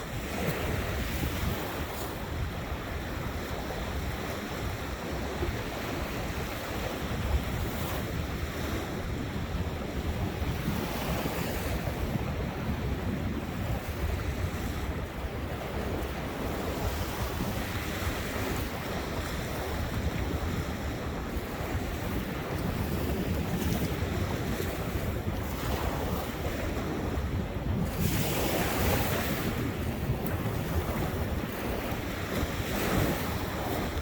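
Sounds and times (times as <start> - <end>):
ocean surf washing ashore: 0.0 - 34.0
wind buffeting microphone: 0.0 - 34.0.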